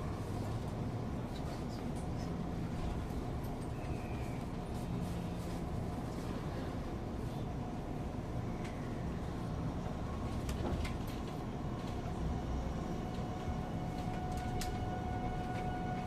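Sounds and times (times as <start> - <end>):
train inverter whine: 0.0 - 16.0
train running rumble: 0.0 - 16.0.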